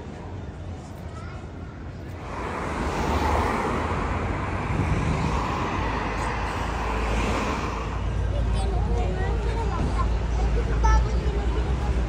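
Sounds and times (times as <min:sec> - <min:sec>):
low traffic rumble: 0:00.0 - 0:12.0
passing vehicles rushing: 0:02.0 - 0:12.0.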